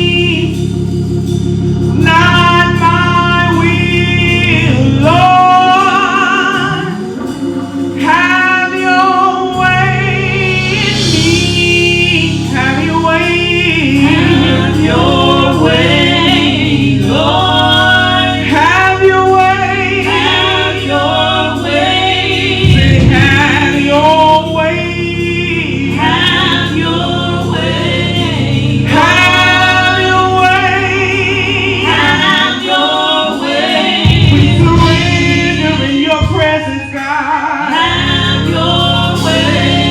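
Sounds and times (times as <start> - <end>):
gospel choir singing: 0.0 - 39.9
instrumental accompaniment: 0.0 - 39.9.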